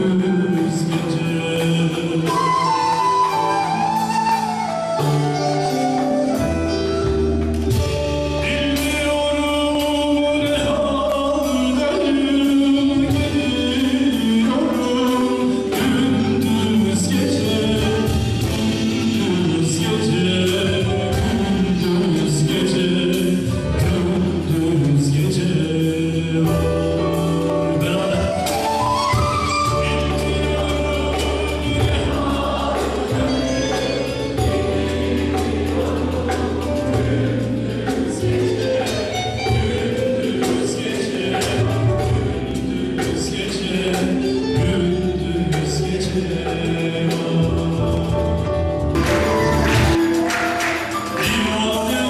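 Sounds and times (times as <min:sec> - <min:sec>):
man singing into microphone: 0:00.0 - 0:04.0, 0:08.3 - 0:48.6, 0:51.0 - 0:52.0
low bass notes: 0:00.0 - 0:50.2
hand drum beat: 0:00.0 - 0:52.0.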